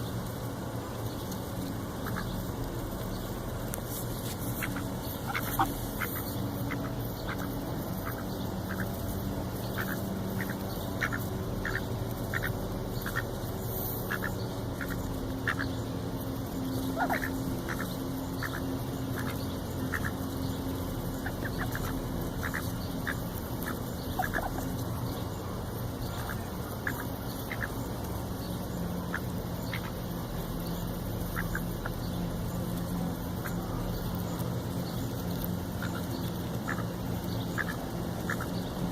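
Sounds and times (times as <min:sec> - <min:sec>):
ducks calling: 0:00.0 - 0:38.9
steady low hum: 0:00.0 - 0:38.9.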